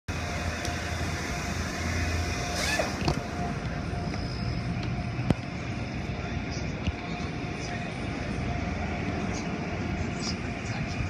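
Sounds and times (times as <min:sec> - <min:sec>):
low machinery hum: 0:00.1 - 0:11.0.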